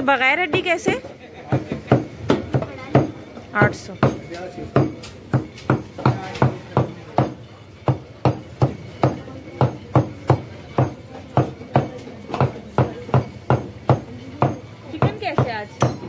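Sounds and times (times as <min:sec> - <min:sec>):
cleaver chopping meat: 0:01.5 - 0:16.0.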